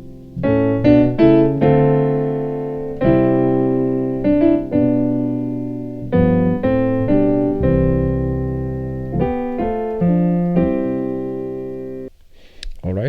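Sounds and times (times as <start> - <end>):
piano chords ringing: 0.0 - 12.1.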